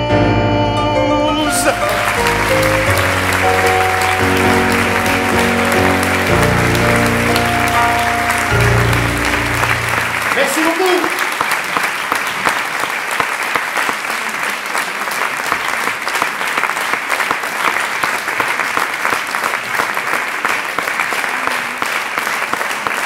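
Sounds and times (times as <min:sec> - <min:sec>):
audience applauding: 0:01.4 - 0:23.0.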